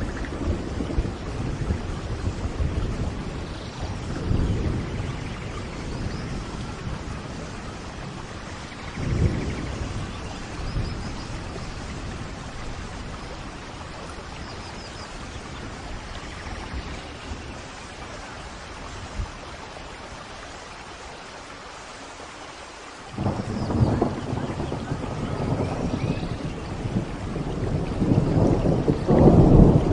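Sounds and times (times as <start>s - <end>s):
low thunder rumbles: 0.0s - 20.3s, 23.1s - 29.9s
steady rain: 0.0s - 29.9s.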